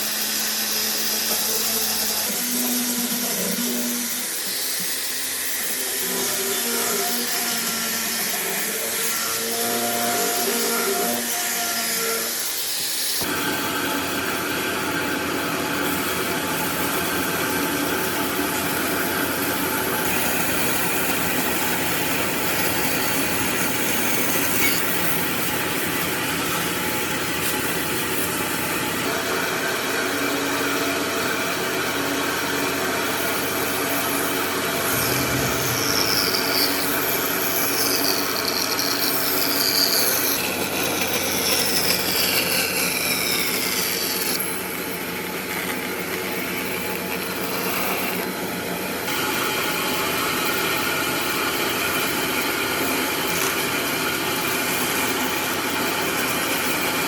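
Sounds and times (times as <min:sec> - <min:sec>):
power tool on wood: 0:00.0 - 0:57.0.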